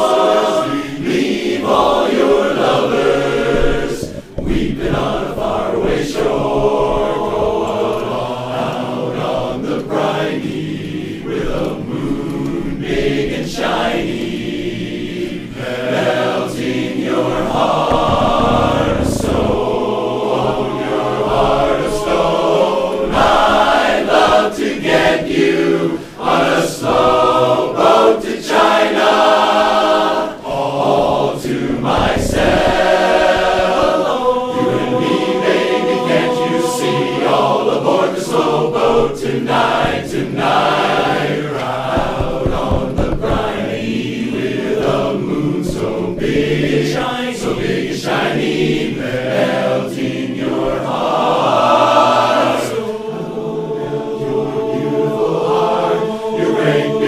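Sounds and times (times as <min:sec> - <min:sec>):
men's chorus singing a cappella: 0:00.0 - 0:57.0.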